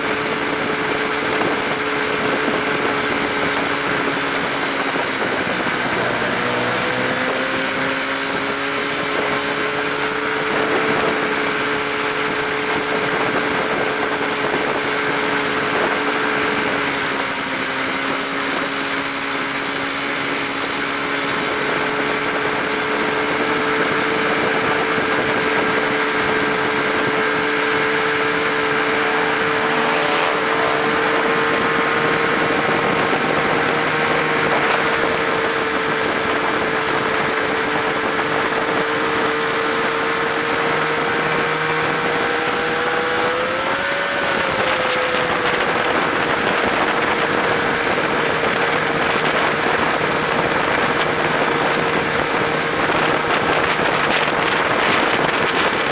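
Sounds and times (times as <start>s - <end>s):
snowmobile engine running: 0.0s - 55.9s.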